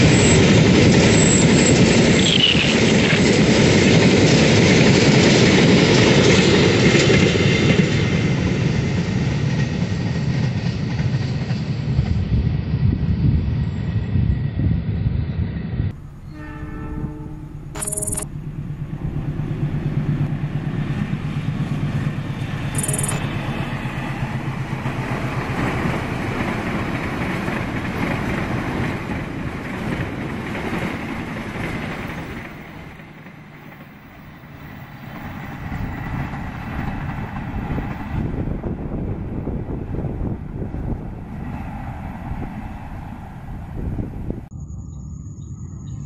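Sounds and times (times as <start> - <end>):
train wheels rumbling on rails: 0.0 - 44.5
train engine drone: 0.0 - 46.0.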